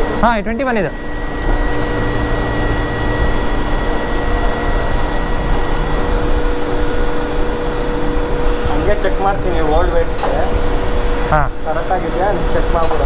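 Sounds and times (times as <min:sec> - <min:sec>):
workshop machine hum: 0:00.0 - 0:13.0.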